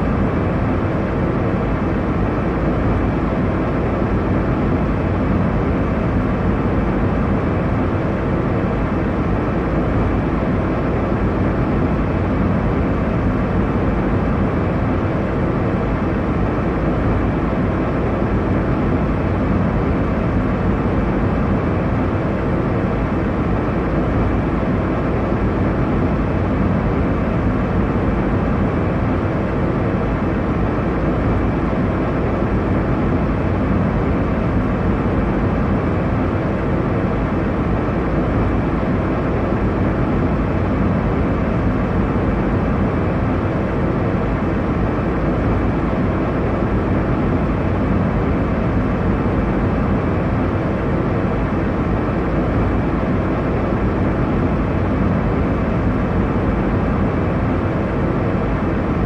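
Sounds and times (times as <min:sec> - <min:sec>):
airliner engines and airflow roar: 0:00.0 - 0:59.0.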